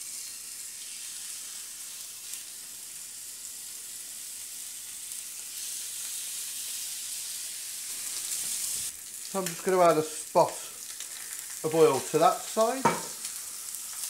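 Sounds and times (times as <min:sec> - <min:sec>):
meat sizzling in a frying pan: 0:00.0 - 0:14.0.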